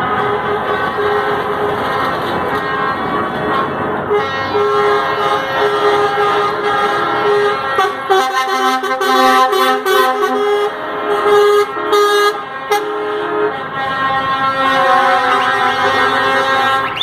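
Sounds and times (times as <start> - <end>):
truck air horns blasting: 0.0 - 17.0.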